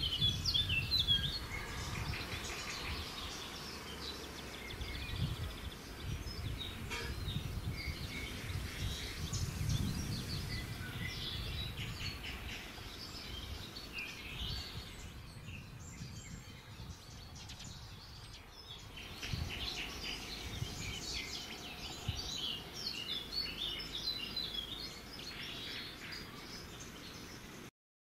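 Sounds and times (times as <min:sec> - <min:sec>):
small birds chirping: 0:00.0 - 0:27.7.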